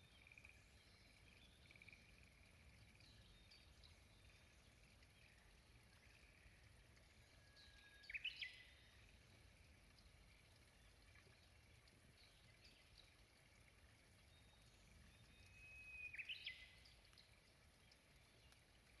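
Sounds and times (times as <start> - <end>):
faint outdoor background noise: 0.0 - 19.0
songbird singing: 0.0 - 19.0.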